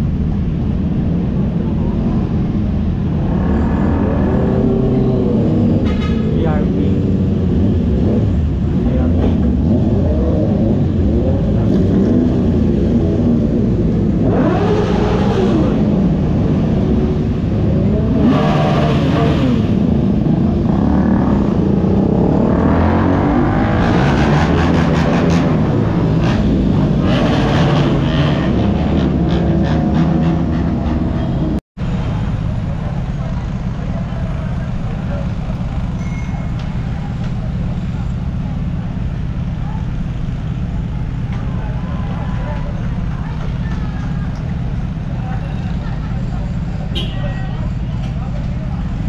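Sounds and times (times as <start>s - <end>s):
motorcycle engines idling and revving: 0.0s - 49.0s.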